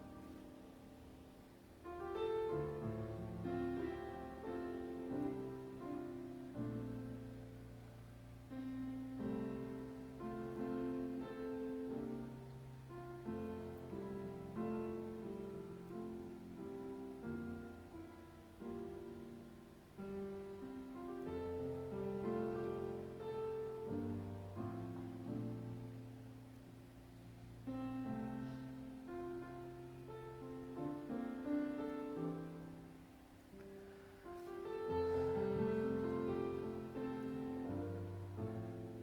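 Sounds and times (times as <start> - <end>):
slow quiet piano music: 0.0 - 39.0.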